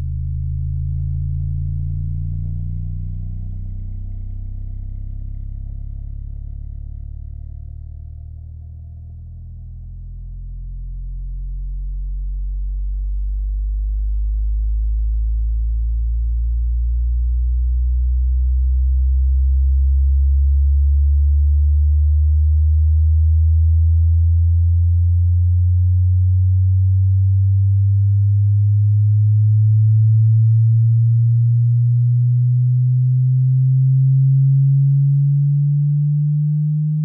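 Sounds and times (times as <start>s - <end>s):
bass sweep test tone: 0.0s - 37.0s.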